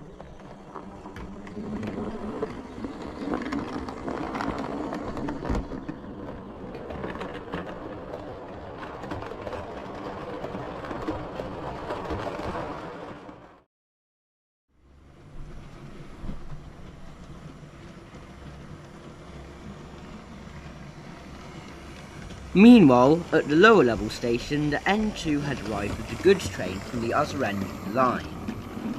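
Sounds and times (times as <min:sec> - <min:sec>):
wheels clicking over rail joints: 0:00.0 - 0:13.5, 0:16.0 - 0:28.9.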